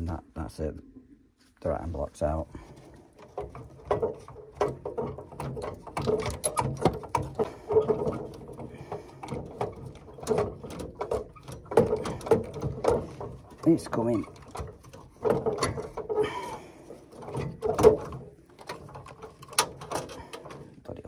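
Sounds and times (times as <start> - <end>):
plastic and metal fittings rattling: 2.4 - 21.0.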